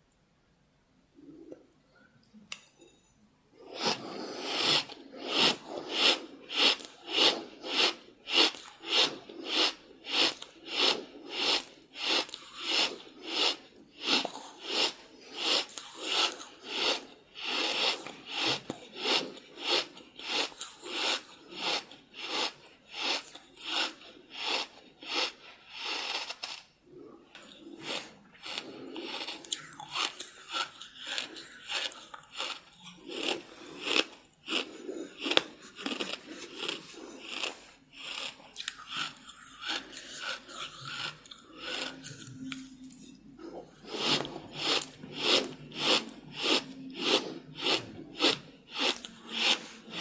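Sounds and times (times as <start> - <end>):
crunchy chewing: 3.6 - 50.0.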